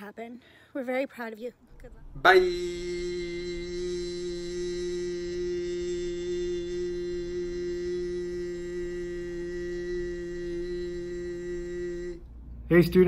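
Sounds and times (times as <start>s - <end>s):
low humming tone with overtones: 1.6s - 13.0s.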